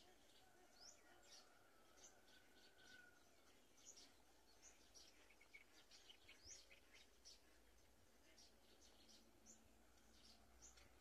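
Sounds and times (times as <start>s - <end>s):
faint high bird chirps: 0.0s - 11.0s
low steady hiss: 0.0s - 11.0s.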